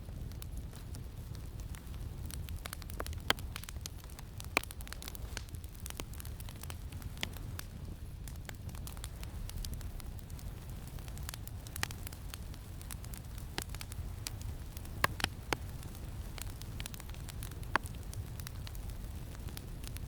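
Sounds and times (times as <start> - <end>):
campfire crackling and popping: 0.0 - 20.0
low rumble of wind: 0.0 - 20.0.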